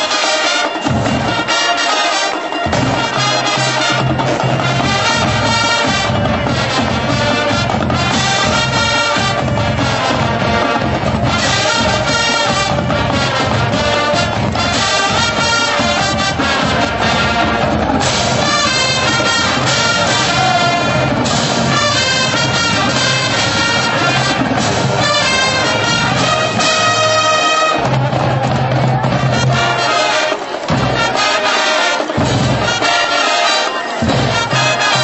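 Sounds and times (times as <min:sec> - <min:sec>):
marching band playing brass tune: 0:00.0 - 0:35.0.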